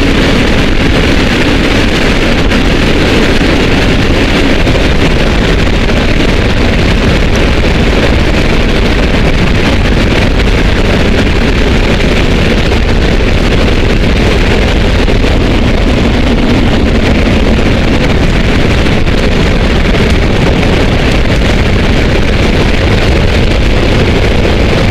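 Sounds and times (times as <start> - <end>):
jet engines roaring: 0.0 - 24.9
rushing slipstream: 0.0 - 24.9.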